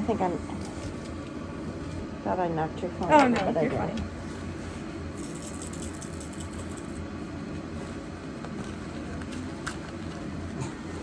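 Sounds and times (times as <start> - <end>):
fan hum: 0.0 - 11.0.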